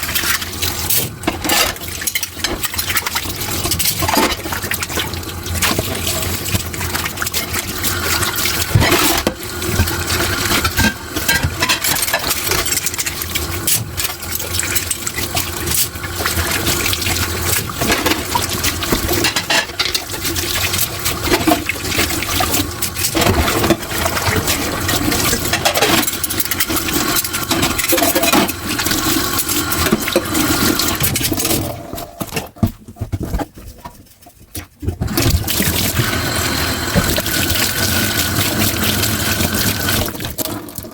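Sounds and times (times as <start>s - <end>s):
tap water splashing into sink: 0.0s - 33.4s, 34.9s - 40.9s.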